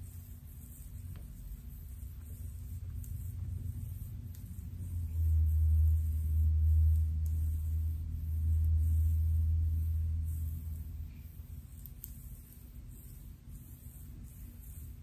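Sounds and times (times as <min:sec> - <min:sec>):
faint hair scratching: 0:00.0 - 0:15.0.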